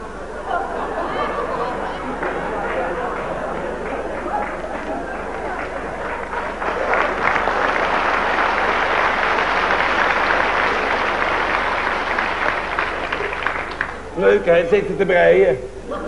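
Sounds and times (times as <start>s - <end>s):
audience applauding: 1.0s - 14.2s.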